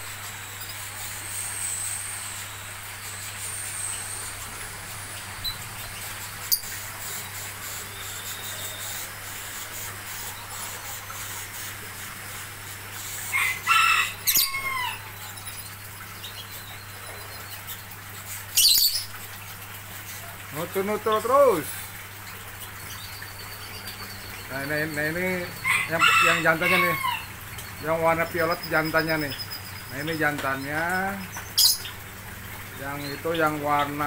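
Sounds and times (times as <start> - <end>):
birds chirping shrilly: 0.0 - 34.0.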